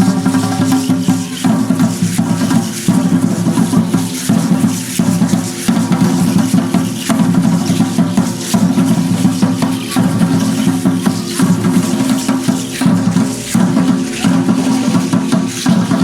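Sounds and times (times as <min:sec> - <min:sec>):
large drum beating: 0:00.0 - 0:16.0
shaking rattle: 0:00.0 - 0:16.0.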